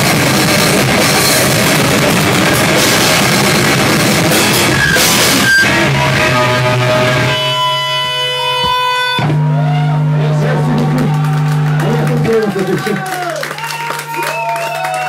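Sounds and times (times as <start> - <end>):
live rock band playing: 0.0 - 12.2.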